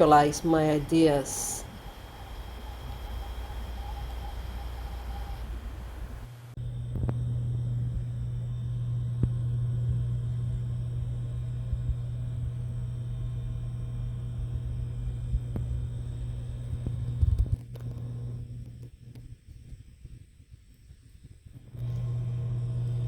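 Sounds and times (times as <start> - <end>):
low hum: 0.0 - 20.4, 21.0 - 23.0.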